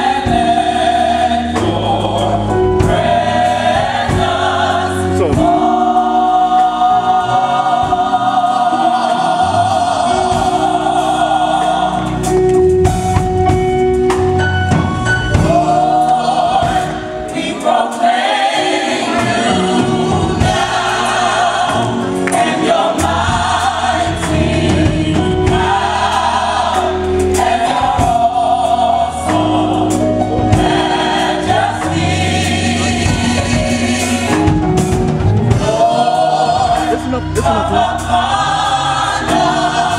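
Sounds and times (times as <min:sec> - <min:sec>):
gospel choir singing: 0:00.0 - 0:39.9
instrumental accompaniment: 0:00.0 - 0:39.9.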